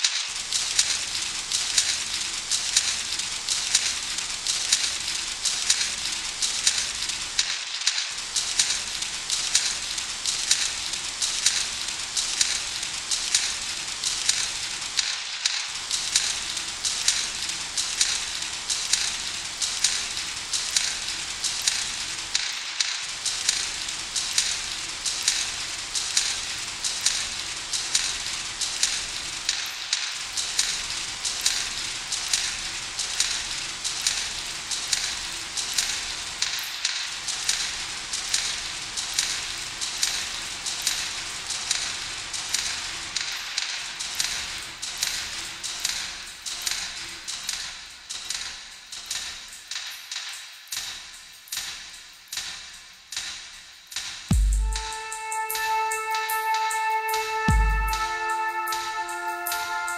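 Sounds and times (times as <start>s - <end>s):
hissy music loop with ticking beat: 0.0s - 59.9s.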